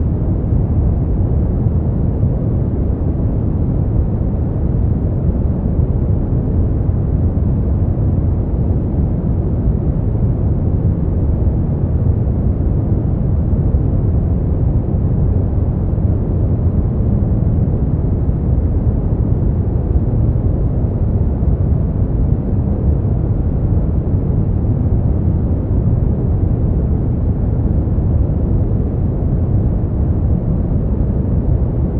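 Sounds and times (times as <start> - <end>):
deep white noise rush: 0.0 - 31.9.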